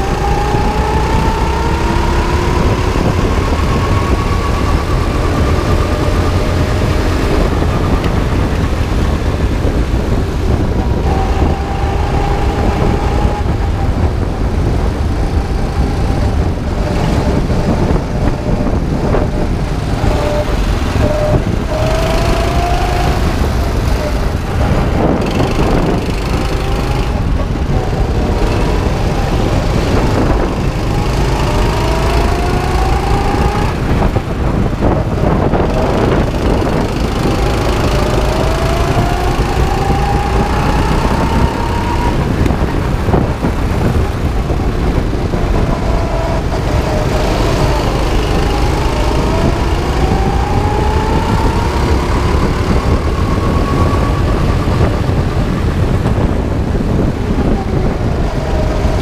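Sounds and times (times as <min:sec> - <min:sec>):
go-kart engine running hard: 0:00.0 - 0:59.0
heavy low rumble: 0:00.0 - 0:59.0.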